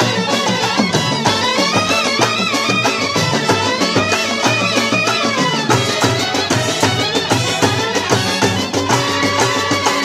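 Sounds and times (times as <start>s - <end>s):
brass band playing: 0.0s - 10.0s
drum beat: 0.0s - 10.0s.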